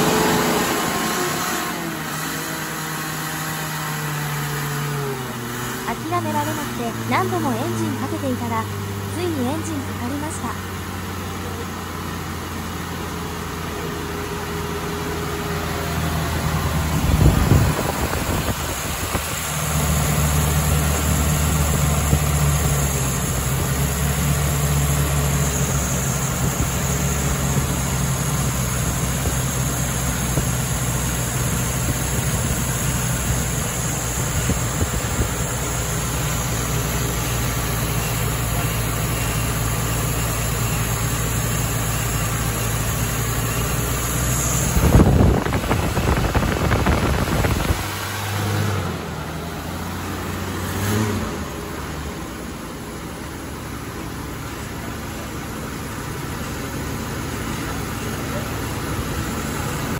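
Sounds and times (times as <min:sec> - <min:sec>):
engine revving surge: 0:00.0 - 0:10.7, 0:14.3 - 0:54.8
car engine idling: 0:00.0 - 0:59.9.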